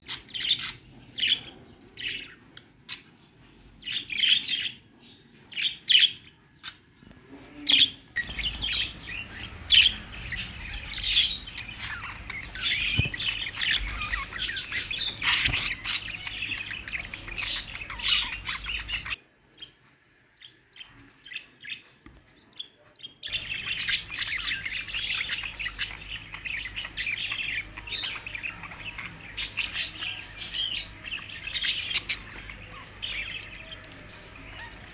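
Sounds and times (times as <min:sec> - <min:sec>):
budgerigars chirping and chattering: 0:00.0 - 0:19.8, 0:20.4 - 0:34.9.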